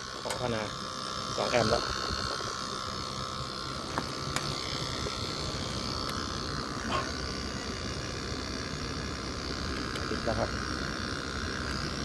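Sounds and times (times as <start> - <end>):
air conditioner compressor running: 0.0 - 12.0.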